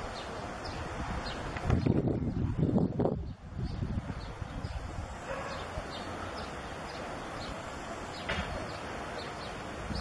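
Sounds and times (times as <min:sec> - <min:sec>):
birds chirping: 0:00.0 - 0:10.0
outdoor hiss: 0:00.0 - 0:10.0.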